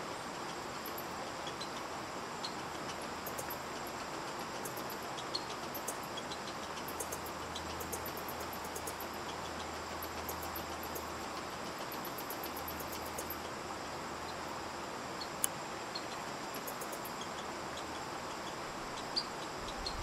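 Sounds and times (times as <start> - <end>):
faint high-pitched ticks: 0.0 - 20.0
outdoor background hiss: 0.0 - 20.0.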